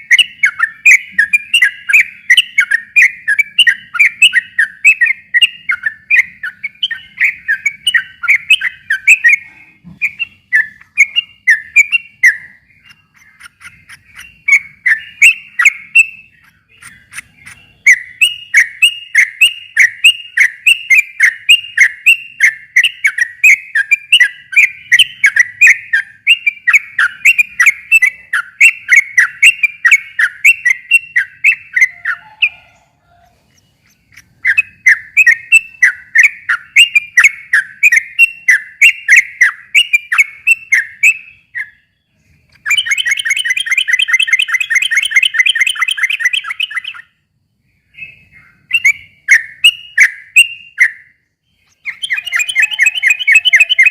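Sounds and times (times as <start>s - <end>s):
bird singing rolling chattering song: 0.0s - 53.9s.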